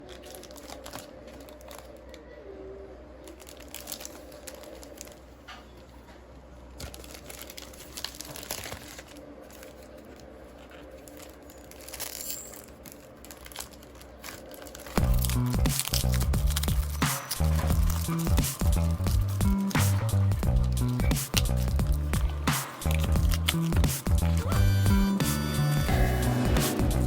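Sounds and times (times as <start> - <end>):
packaging tearing: 0.0 - 2.2, 3.3 - 5.2, 6.8 - 24.6
packaging crinkling: 0.0 - 2.3, 3.2 - 24.6.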